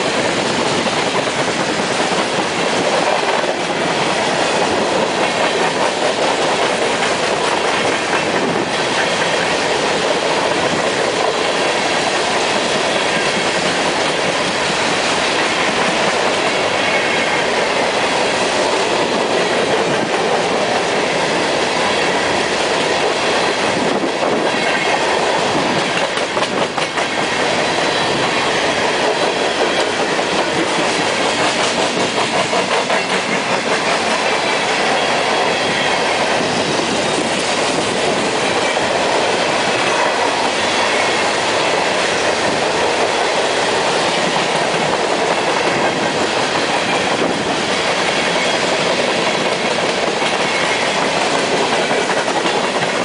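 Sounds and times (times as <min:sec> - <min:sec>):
freight train wheels rumbling: 0:00.0 - 0:53.0
wheels clacking over rail joints: 0:00.0 - 0:53.0.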